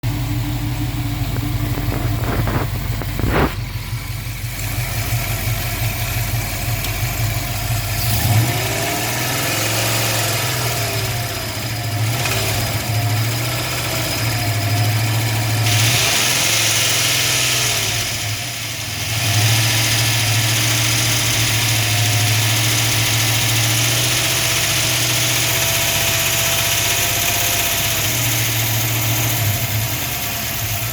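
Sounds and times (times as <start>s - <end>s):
car engine knocking: 0.0s - 30.9s.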